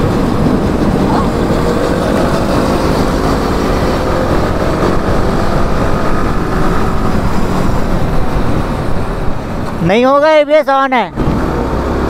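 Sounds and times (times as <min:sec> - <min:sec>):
wind on microphone: 0:00.0 - 0:09.9
motorcycle engines: 0:00.0 - 0:12.0.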